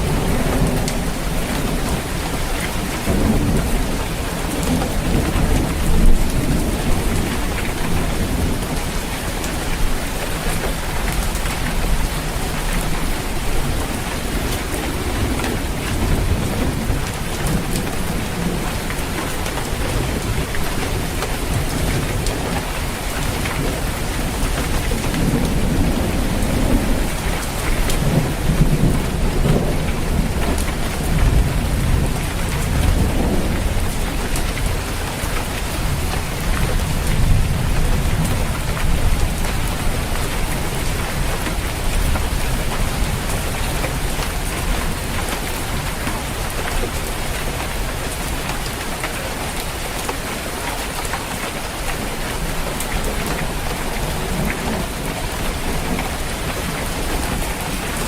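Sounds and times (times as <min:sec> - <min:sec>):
rolling thunder: 0:00.0 - 0:46.6
heavy rain drumming on a roof: 0:00.0 - 0:58.0.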